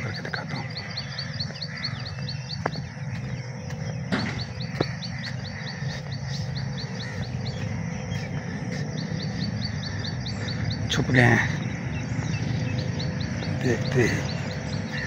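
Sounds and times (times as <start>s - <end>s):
small bird chirping: 0.0s - 15.0s
steady low rumble: 0.0s - 15.0s.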